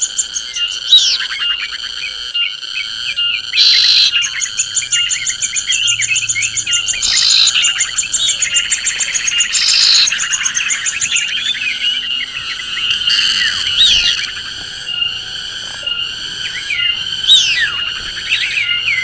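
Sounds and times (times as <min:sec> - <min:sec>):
birds chirping in chorus: 0:00.0 - 0:19.0.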